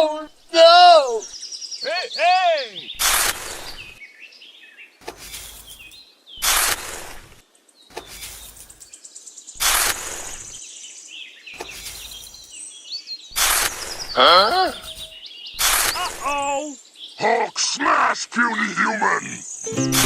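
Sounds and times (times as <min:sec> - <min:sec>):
birds chirping faintly: 0:00.0 - 0:20.0.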